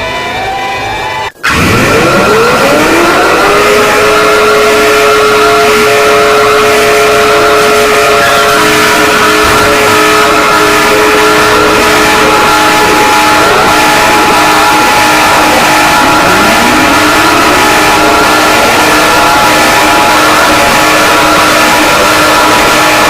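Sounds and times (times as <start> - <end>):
harsh electronic alarm tones: 0.0 - 23.0
siren-like glides: 0.0 - 23.0.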